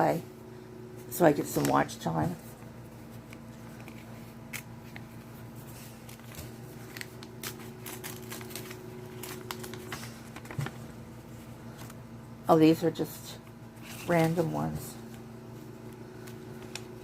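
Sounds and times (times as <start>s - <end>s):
oxygen concentrator humming: 0.0s - 17.0s
room fan humming: 0.0s - 17.0s
paper and stickers rustling: 1.2s - 12.0s, 13.8s - 17.0s.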